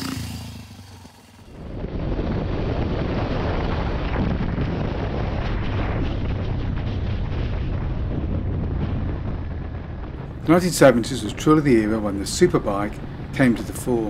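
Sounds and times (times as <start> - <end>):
motorcycle engine running: 0.0 - 14.0
wind buffeting microphone: 1.5 - 14.0.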